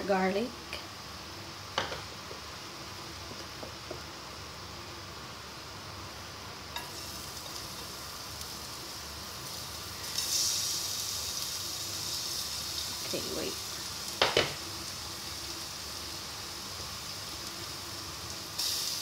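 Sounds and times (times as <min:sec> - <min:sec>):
oil sizzling in a frying pan: 0:00.0 - 0:19.0.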